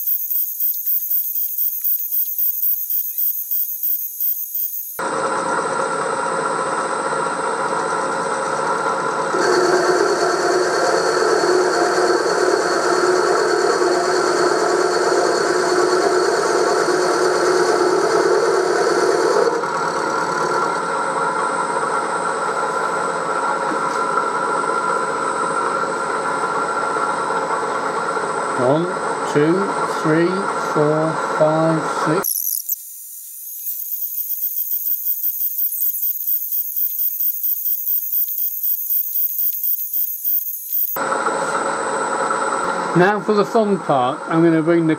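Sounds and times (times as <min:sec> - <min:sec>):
loud high-pitched cutting whine: 0:00.0 - 0:44.9
milling machine hum and whine: 0:00.0 - 0:44.9.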